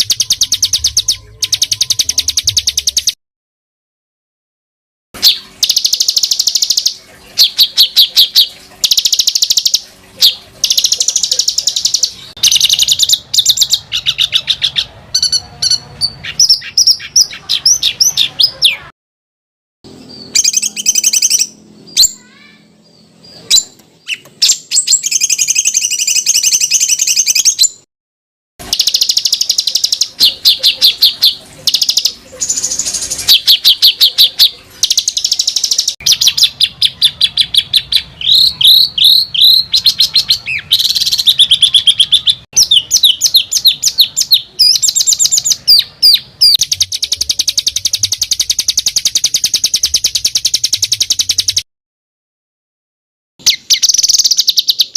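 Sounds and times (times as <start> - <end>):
songbird trilling and whistling: 0.0 - 3.2, 5.2 - 18.9, 20.0 - 27.8, 28.6 - 51.6, 53.4 - 54.9.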